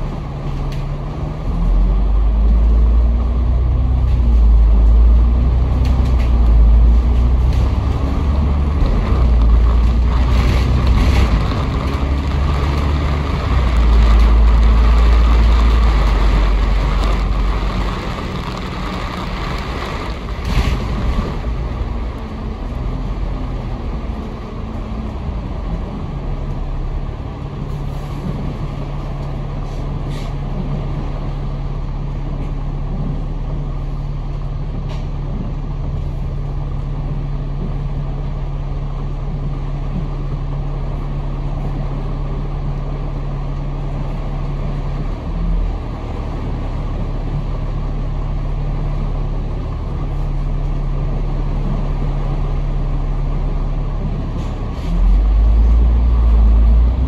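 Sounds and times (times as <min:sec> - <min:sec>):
bus diesel engine hum: 0:00.0 - 0:57.0.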